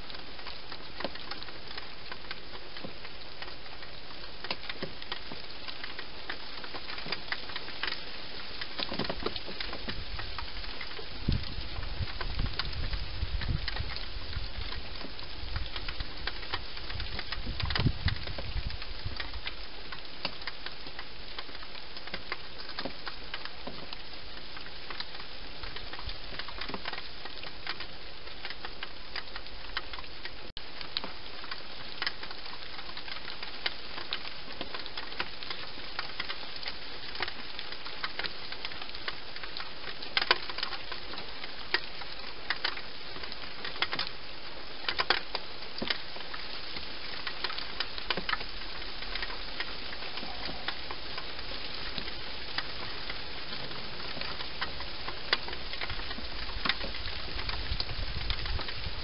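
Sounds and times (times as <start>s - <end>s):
light ticks and clicks: 0.0s - 59.0s
steady hiss: 0.0s - 59.0s.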